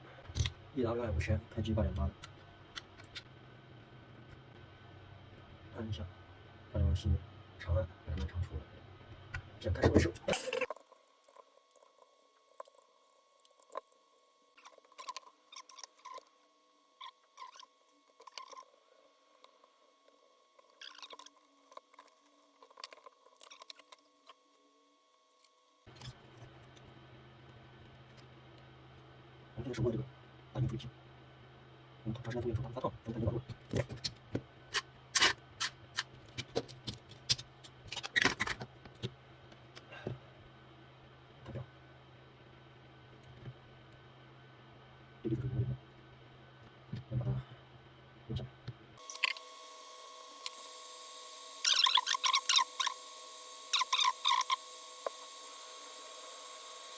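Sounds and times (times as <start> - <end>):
faint low hum: 0.0 - 49.3.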